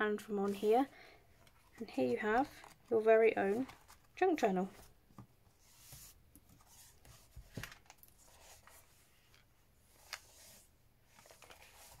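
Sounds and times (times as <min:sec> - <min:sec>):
paper pages rustling: 0:01.3 - 0:12.0.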